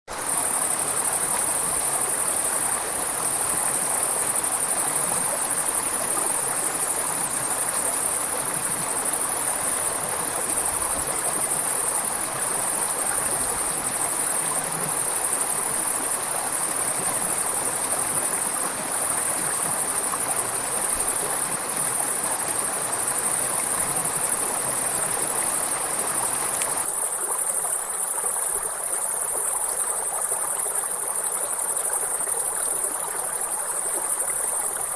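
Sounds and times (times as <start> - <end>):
high-pitched insect chorus: 0.2 - 34.9.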